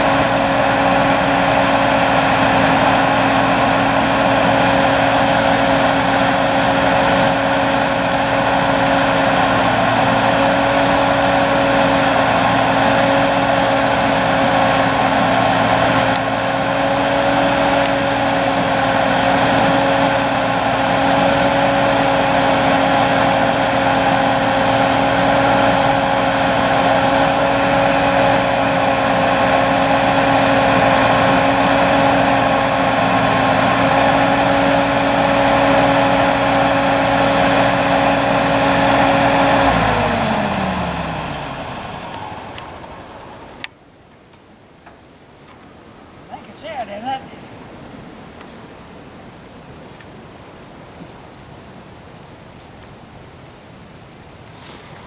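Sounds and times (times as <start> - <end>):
tractor engine running steadily: 0.0 - 46.9.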